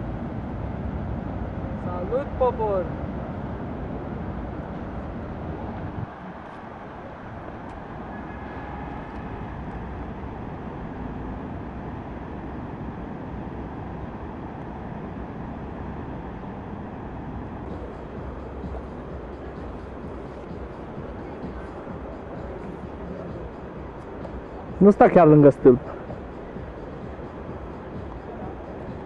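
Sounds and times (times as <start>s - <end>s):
faint distant city traffic: 0.0s - 29.0s
low wind rumble on microphone: 0.0s - 29.0s.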